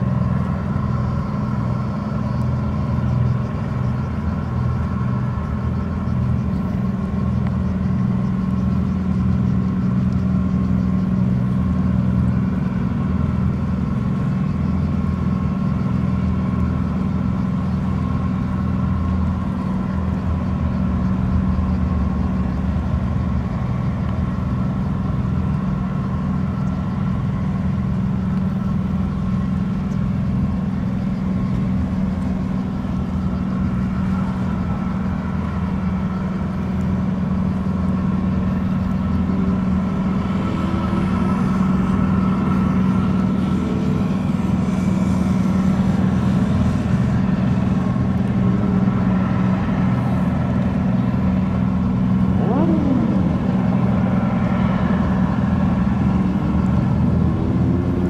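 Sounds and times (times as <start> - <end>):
ship engine droning: 0.0 - 58.0
water noise: 0.0 - 58.0.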